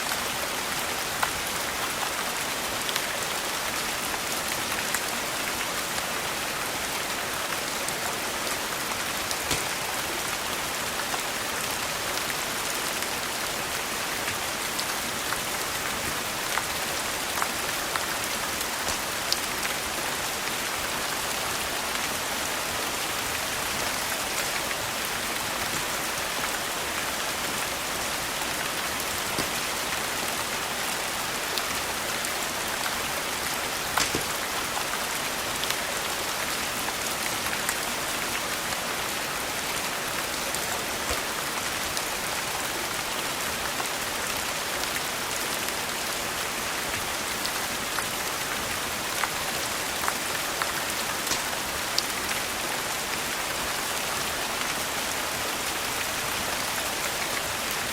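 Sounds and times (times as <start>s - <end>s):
rain falling: 0.0s - 57.9s.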